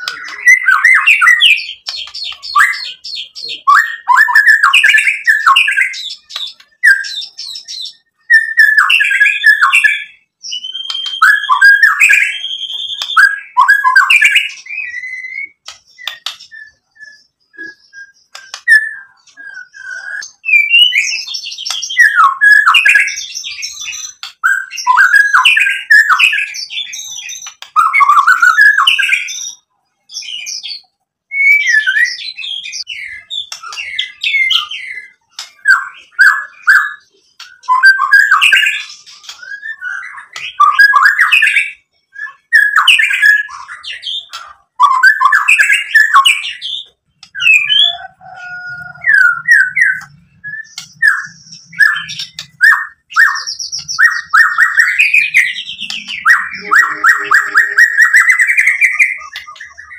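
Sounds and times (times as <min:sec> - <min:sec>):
bird singing whistles and chatter: 0:00.0 - 0:59.9.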